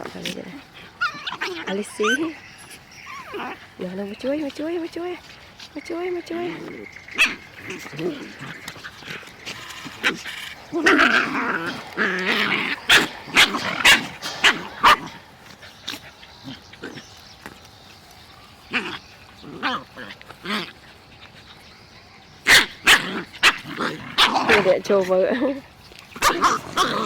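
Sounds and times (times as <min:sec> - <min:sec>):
puppies barking: 0:00.0 - 0:27.0.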